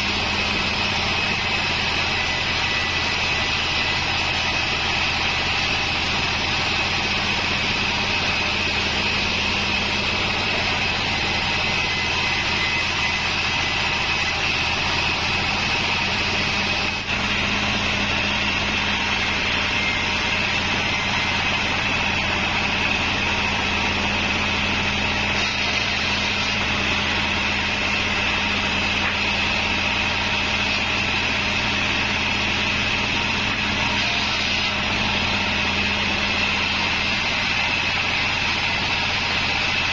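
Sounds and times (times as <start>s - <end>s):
band sawmill whining: 0.0s - 39.9s.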